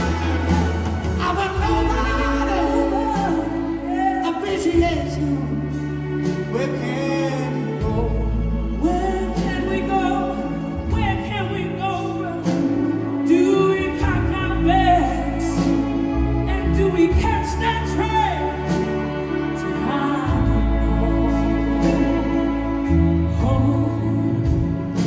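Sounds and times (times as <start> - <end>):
bass and drums: 0.0 - 25.0
orchestral strings: 0.0 - 25.0.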